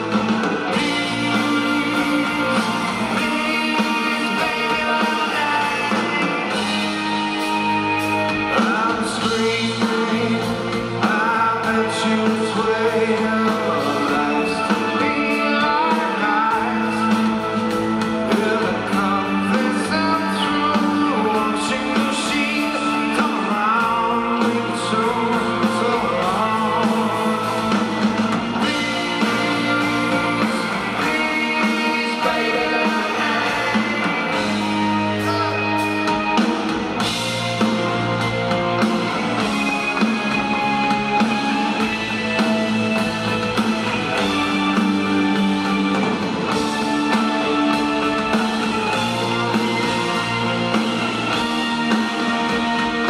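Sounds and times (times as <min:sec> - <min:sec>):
drums: 0:00.0 - 0:53.0
electric guitars: 0:00.0 - 0:53.0
man singing lead: 0:00.0 - 0:53.0.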